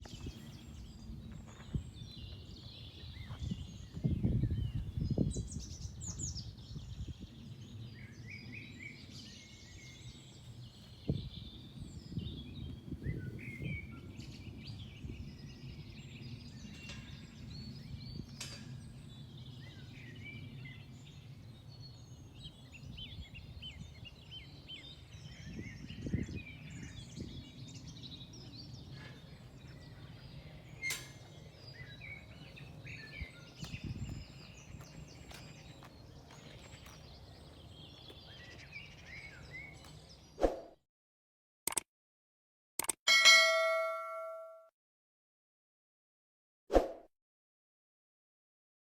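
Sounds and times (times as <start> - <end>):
songbirds singing and chirping: 0.0 - 40.4.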